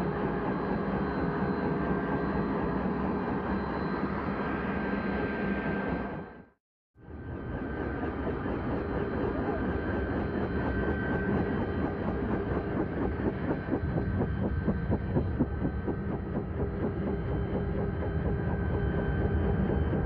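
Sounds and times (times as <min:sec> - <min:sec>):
helicopter running on ground: 0:00.0 - 0:06.4, 0:07.0 - 0:20.0.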